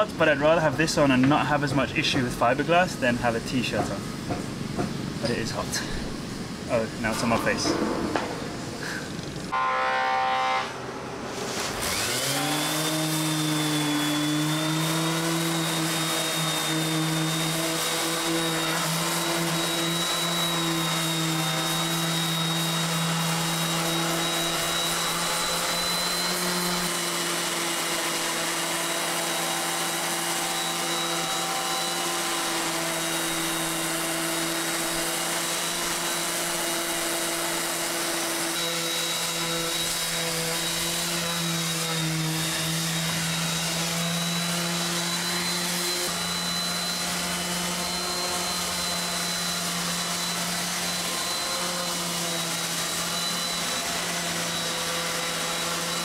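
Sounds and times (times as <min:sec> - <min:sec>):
orbital sander running: 0:03.3 - 0:10.8, 0:11.6 - 0:56.0.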